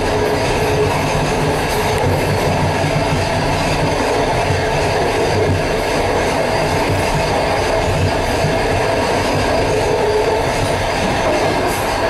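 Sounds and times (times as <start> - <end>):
train wheels rumbling and rattling: 0.0 - 12.0.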